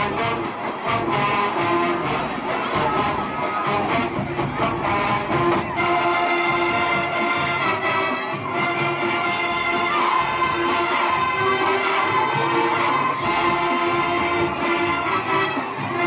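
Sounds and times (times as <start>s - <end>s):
marching drum line: 0.0s - 16.0s.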